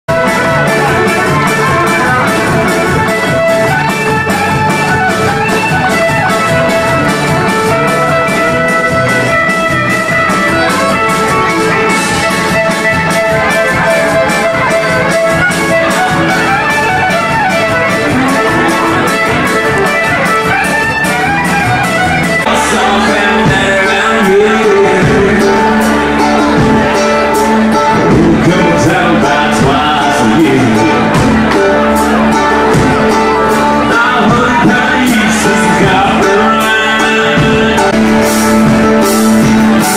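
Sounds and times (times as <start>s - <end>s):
instrumental music with steady beat: 0.1s - 39.9s.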